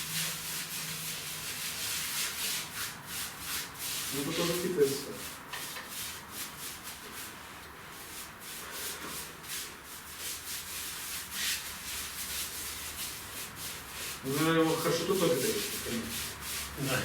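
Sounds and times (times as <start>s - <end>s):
paintbrush scrubbing on stone: 0.0s - 17.0s.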